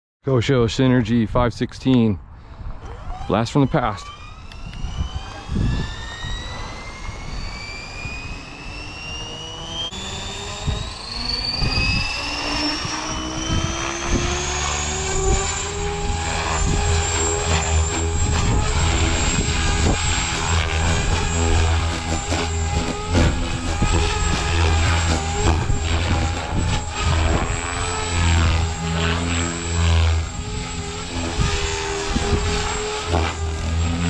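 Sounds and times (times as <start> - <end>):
electric motor whine rising: 2.6 - 34.0
rotor low beat: 6.4 - 34.0.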